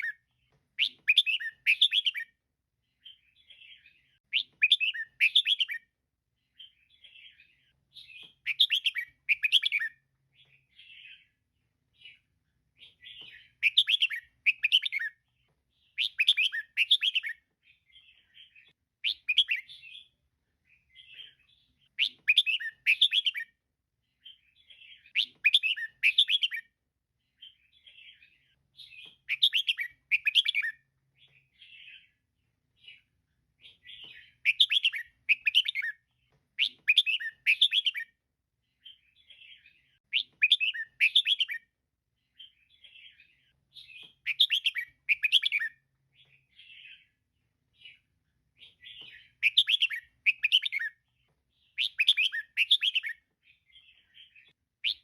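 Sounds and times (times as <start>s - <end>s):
bird chirping: 0.0s - 55.0s
soft bird twittering: 0.0s - 55.0s.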